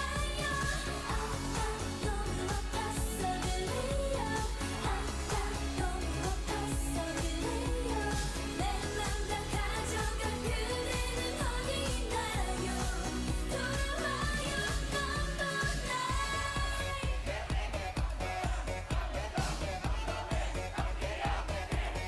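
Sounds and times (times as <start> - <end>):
dance-pop song with female vocals: 0.0 - 22.0.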